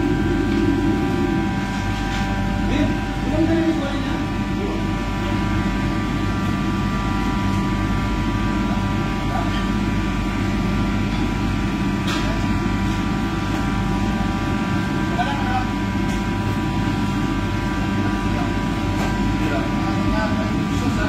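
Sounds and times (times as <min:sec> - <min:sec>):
ventilation fans droning: 0:00.0 - 0:21.0.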